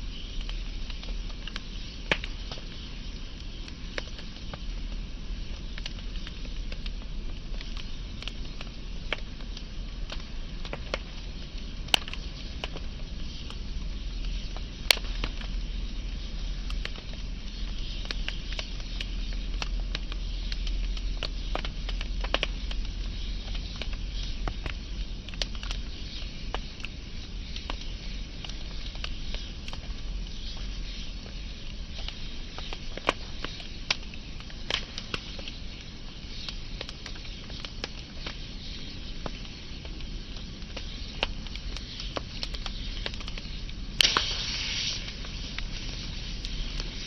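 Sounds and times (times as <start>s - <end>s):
low rumble of flames: 0.0s - 47.0s
wood fire crackling: 0.0s - 47.0s.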